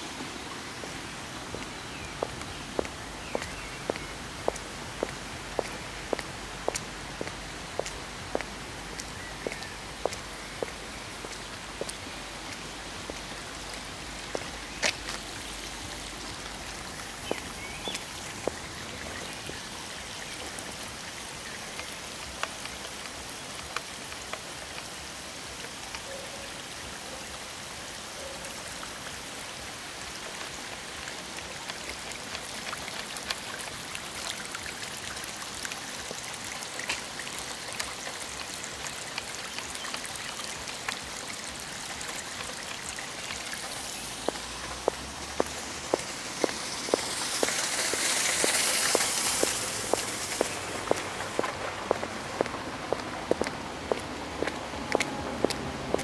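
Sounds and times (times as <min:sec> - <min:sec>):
rain and running water hiss: 0:00.0 - 0:56.0.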